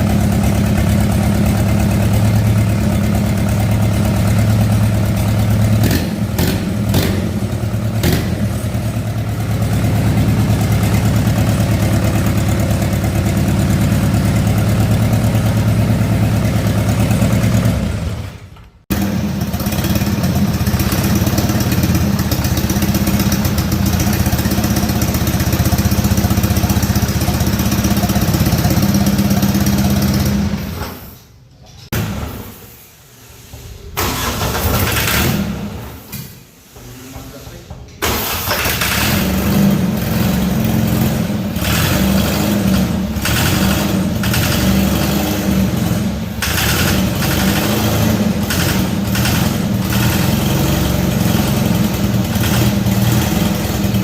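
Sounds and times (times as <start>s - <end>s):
diesel engine running: 0.0s - 30.9s, 38.2s - 54.0s.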